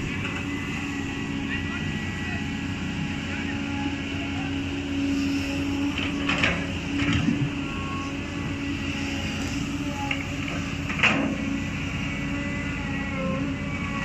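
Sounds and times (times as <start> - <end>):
excavator diesel engine hum: 0.0 - 14.0.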